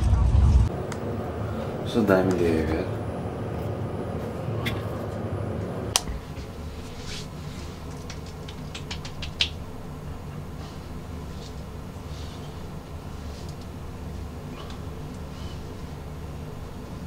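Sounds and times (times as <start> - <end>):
lift hum: 0.0 - 17.0
low room hum: 0.0 - 17.0.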